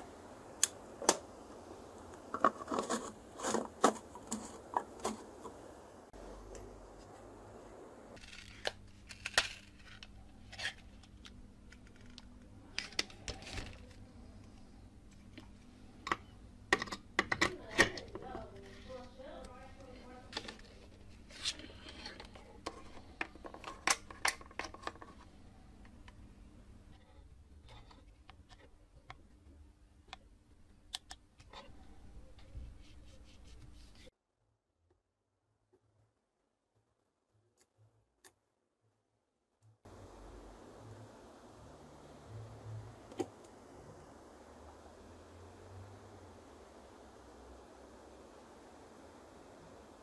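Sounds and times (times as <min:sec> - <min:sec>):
faint steady hum: 0:00.0 - 0:34.1, 0:39.6 - 0:50.0.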